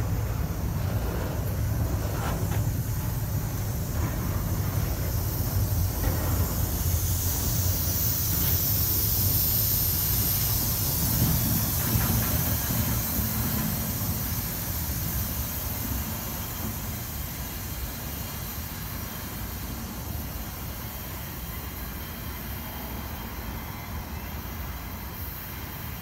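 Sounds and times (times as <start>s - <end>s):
freight train wheels rumbling on rail: 0.0s - 26.0s
high hiss: 0.0s - 26.0s.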